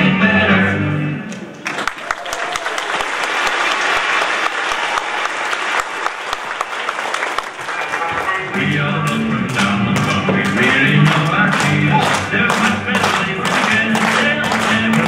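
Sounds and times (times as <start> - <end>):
audience applauding: 1.4 - 15.0.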